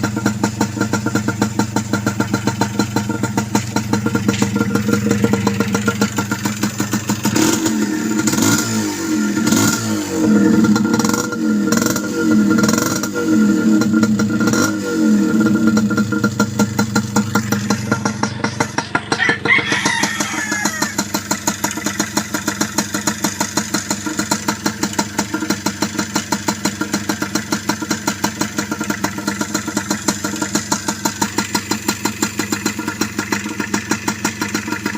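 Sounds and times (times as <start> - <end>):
motorcycle engine revving and idling: 0.0 - 34.9.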